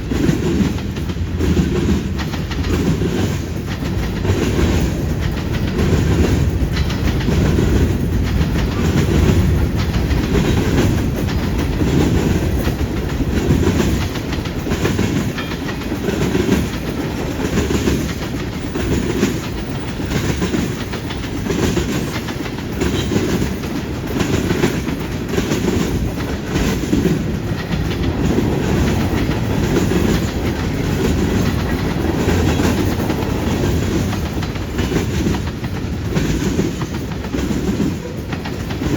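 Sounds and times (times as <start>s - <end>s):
freight train rumbling past: 0.0s - 38.9s
wheels clacking over rails: 0.0s - 38.9s.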